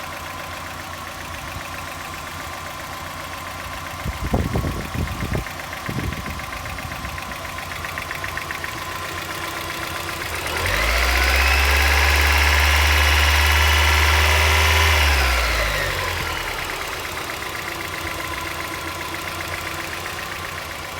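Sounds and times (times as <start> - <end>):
car engine idling and revving: 0.0 - 20.9
fast engine ticking: 0.0 - 20.9.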